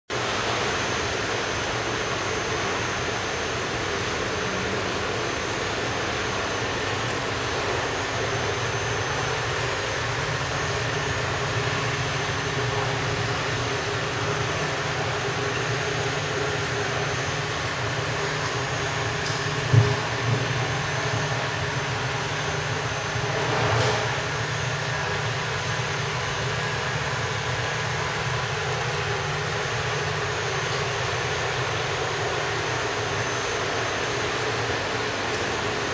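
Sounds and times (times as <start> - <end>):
mechanical hum with high whine: 0.1 - 35.9.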